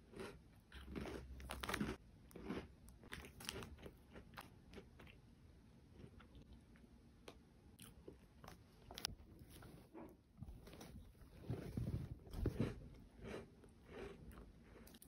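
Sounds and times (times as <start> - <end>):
person chewing crunchy biscuit: 0.0 - 15.0.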